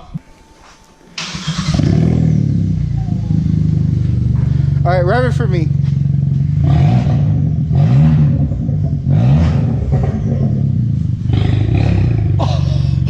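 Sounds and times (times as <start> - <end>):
loud car engine revving and idling: 1.2 - 13.0.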